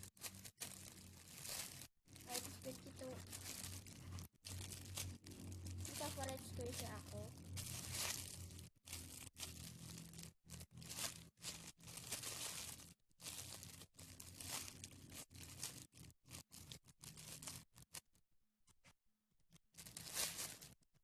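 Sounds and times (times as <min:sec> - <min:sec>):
squishy toy crinkling: 0:00.0 - 0:18.0, 0:19.8 - 0:20.8.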